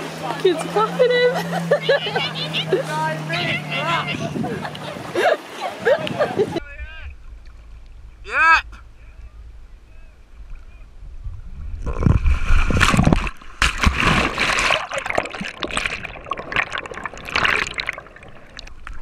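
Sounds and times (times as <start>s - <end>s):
water splashing: 0.0s - 8.3s, 11.4s - 19.0s.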